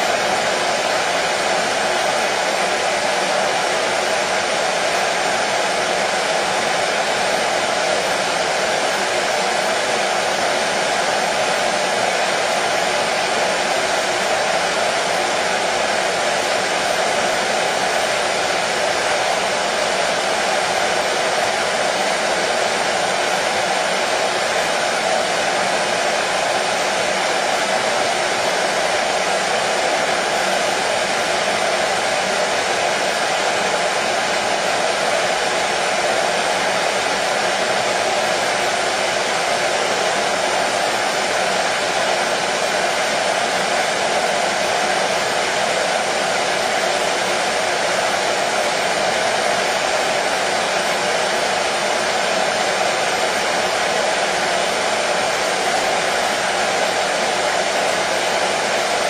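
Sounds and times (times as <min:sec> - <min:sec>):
hair dryer blowing air: 0:00.0 - 0:59.0.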